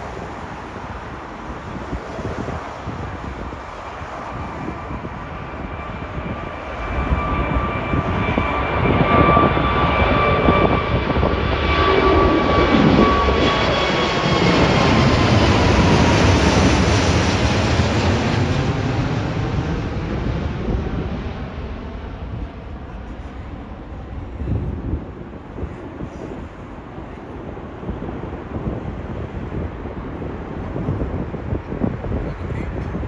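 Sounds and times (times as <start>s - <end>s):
jet airliner engines passing: 0.0s - 33.0s.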